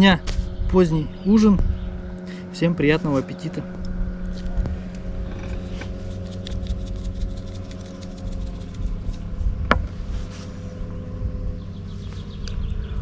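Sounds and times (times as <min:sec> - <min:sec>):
motorboat engine drone: 0:00.4 - 0:13.0.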